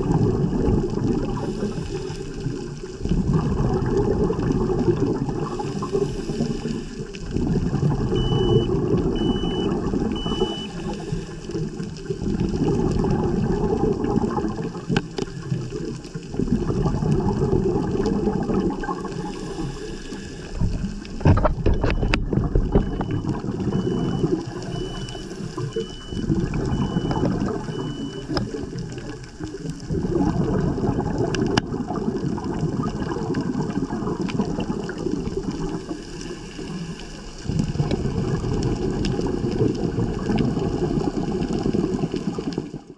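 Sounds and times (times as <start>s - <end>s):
underwater bubbles gurgling: 0.0s - 42.9s.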